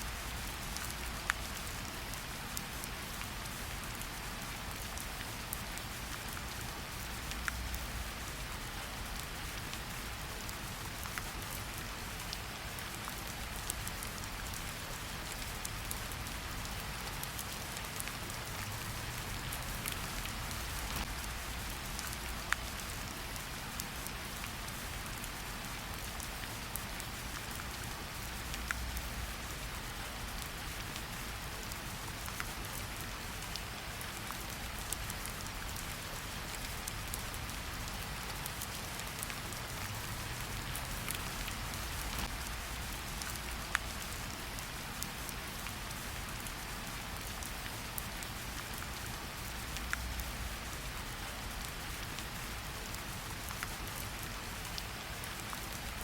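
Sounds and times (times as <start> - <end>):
steady rain in a forest: 0.0 - 56.0
close raindrops ticking: 0.1 - 56.0.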